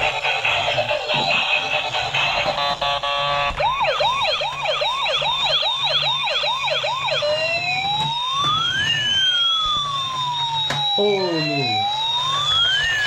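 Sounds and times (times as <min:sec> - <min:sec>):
toy police siren: 0:00.0 - 0:13.0.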